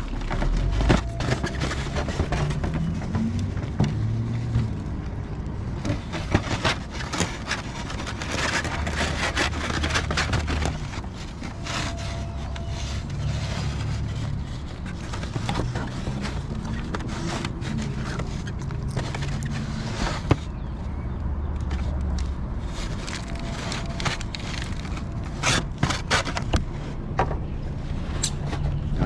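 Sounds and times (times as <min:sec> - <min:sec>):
car engine low rumble: 0:00.0 - 0:29.0.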